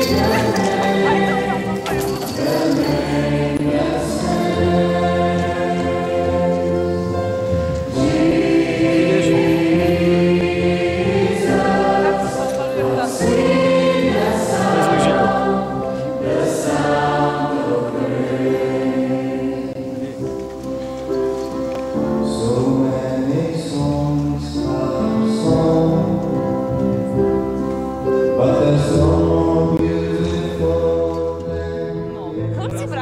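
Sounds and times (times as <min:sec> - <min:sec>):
choir singing held chords: 0:00.0 - 0:20.3, 0:21.9 - 0:32.2.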